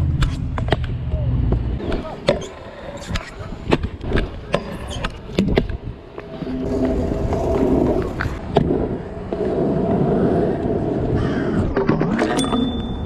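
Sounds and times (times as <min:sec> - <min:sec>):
scooter wheels rolling on asphalt: 0:00.0 - 0:13.0.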